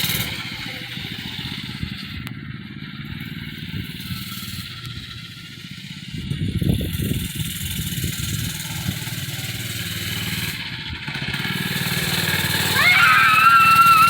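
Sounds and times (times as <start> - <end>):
mini bike engine running: 0.0 - 14.0.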